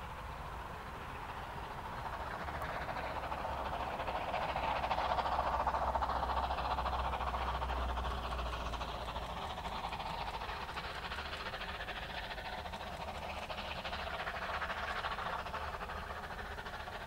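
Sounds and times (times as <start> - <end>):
steam locomotive exhaust beats: 0.0 - 17.0.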